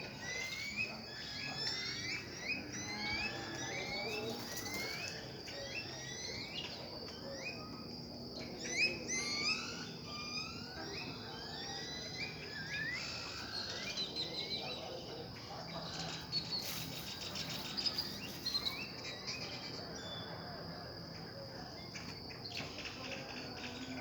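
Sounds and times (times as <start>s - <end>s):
birds chirping: 0.0s - 24.0s
high insect trill: 0.0s - 24.0s.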